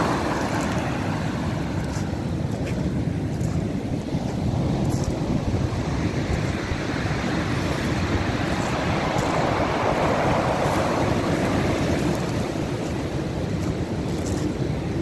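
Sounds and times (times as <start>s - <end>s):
heavy waves breaking: 0.0s - 15.0s
low rumble of wind: 0.0s - 15.0s.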